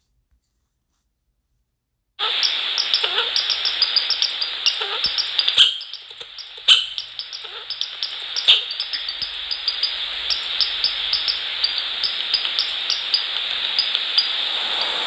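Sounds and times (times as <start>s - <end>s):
steady microphone hiss: 2.2s - 15.0s
small birds chirping rapidly: 2.4s - 15.0s.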